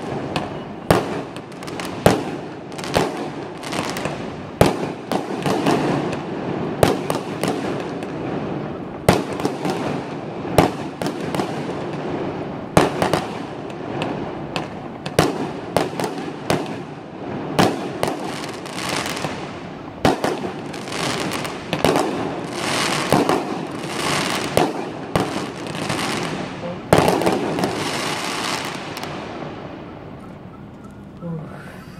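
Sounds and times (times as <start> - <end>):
fireworks bangs: 0.0 - 30.7
continuous wash of noise: 0.0 - 31.9.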